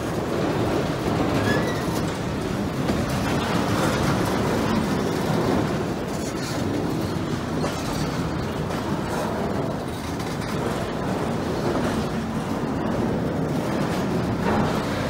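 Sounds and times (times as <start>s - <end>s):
steel wheels running on rails: 0.0s - 15.0s.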